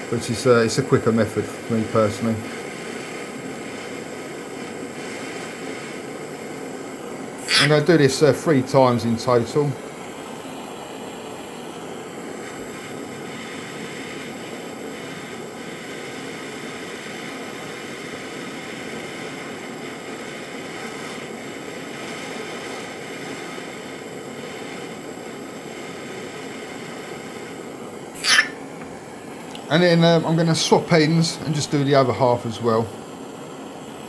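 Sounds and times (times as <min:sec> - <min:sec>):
blowtorch hissing flame: 0:00.0 - 0:34.0.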